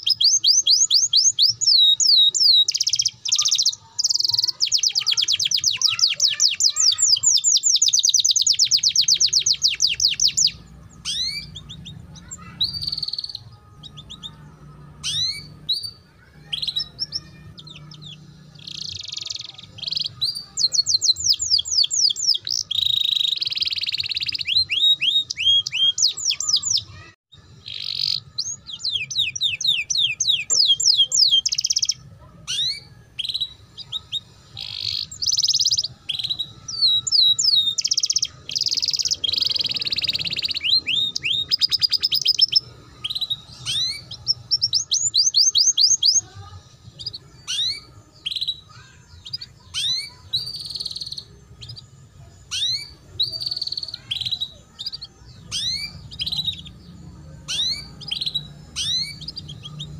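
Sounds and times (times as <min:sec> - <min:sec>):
canary singing chattering trill: 0:00.0 - 0:59.9.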